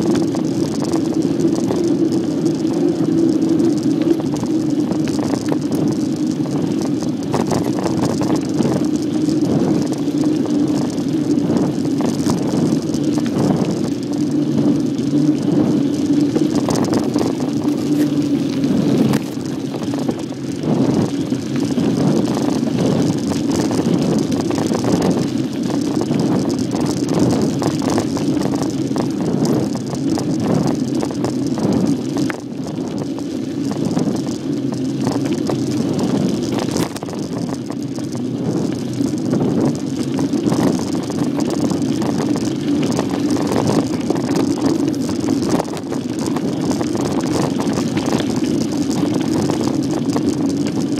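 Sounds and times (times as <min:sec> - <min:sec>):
bicycle rattles and knocks: 0:00.0 - 0:50.9
bicycle tyres rumbling on dirt: 0:00.0 - 0:50.9.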